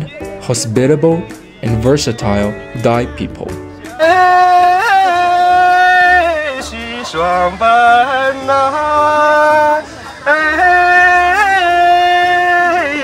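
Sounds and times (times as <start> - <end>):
man singing in high voice: 0.0 - 13.0.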